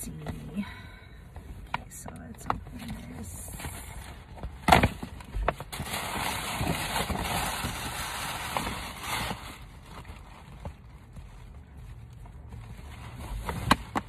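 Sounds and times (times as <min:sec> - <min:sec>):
paper bag rustling and crinkling: 0:02.7 - 0:14.0.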